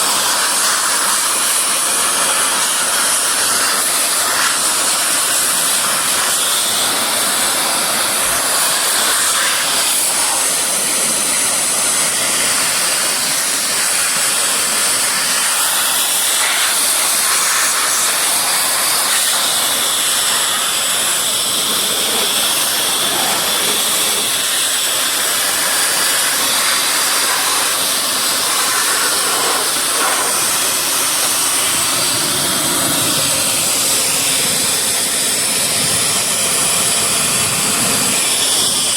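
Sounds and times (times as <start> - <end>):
blower rushing air: 0.0 - 38.9.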